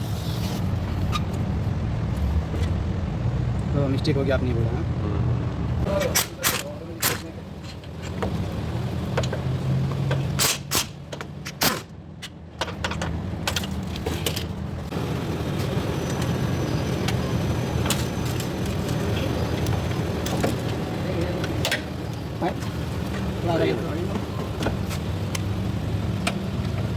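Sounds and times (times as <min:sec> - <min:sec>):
vehicle humming: 0:00.0 - 0:26.9.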